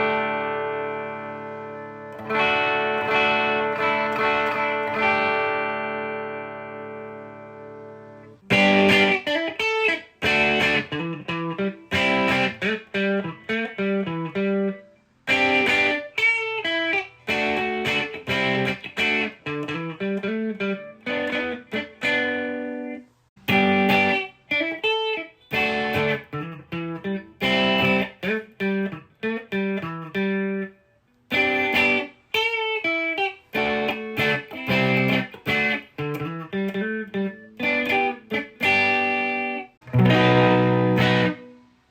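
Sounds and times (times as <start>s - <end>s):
electric guitar phrase: 0.0s - 41.9s.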